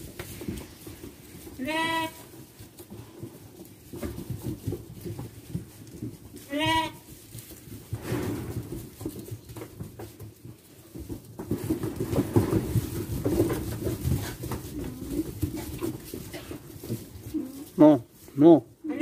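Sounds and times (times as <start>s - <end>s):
sheep shuffling in straw: 0.0s - 19.0s.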